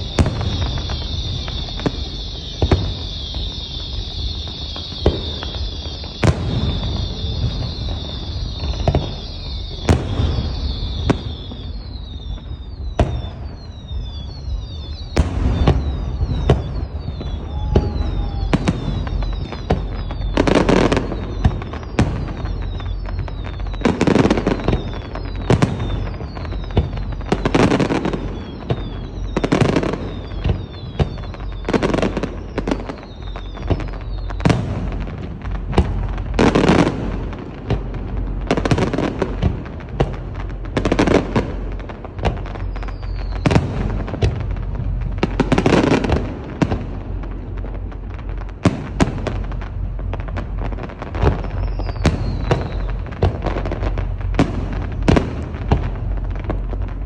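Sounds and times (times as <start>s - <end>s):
falling firework whistles: 0.0s - 57.0s
firework shells booming: 0.0s - 57.0s.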